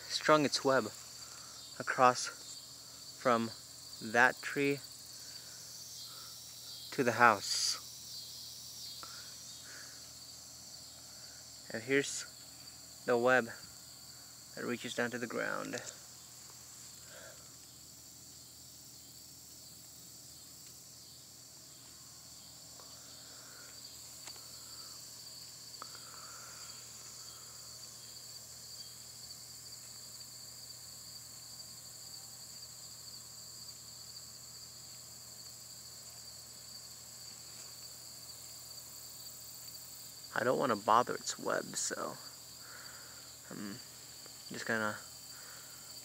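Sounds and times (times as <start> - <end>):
high-pitched insect trills: 0.0 - 46.0
insects chirping: 0.0 - 46.0.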